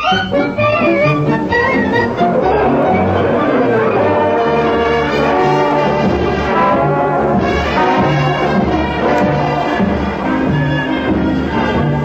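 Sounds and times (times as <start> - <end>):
brass-led orchestral music: 0.0 - 12.0.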